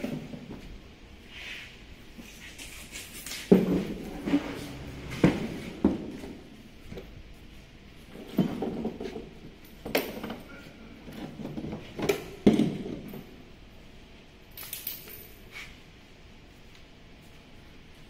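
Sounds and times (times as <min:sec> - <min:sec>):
low background noise: 0:00.0 - 0:18.0.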